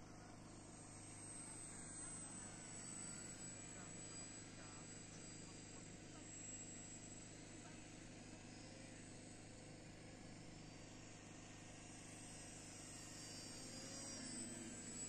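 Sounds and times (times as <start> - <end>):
model planes buzzing: 0.4 - 15.0.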